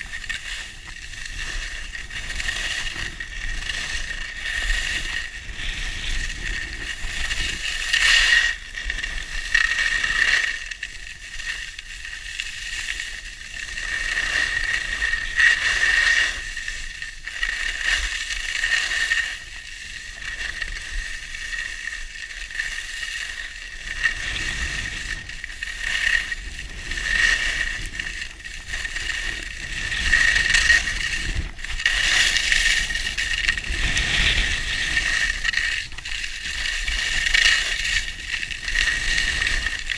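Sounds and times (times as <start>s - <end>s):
skis scraping over snow: 0.0s - 39.9s
wind rumble on microphone: 0.0s - 39.9s.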